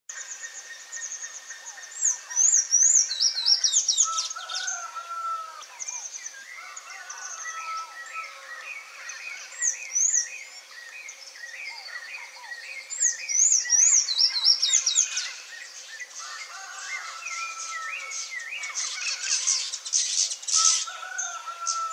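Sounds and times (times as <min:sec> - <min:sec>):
songbirds chirping: 0:00.1 - 0:21.9.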